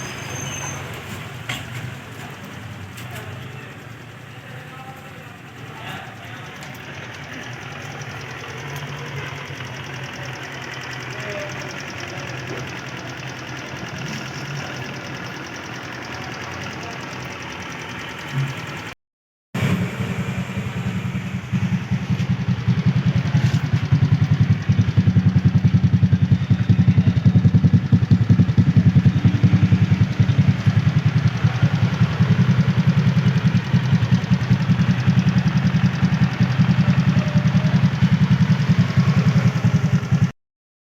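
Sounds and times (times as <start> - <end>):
motorcycle engine idling: 0.0 - 19.0, 19.6 - 40.3.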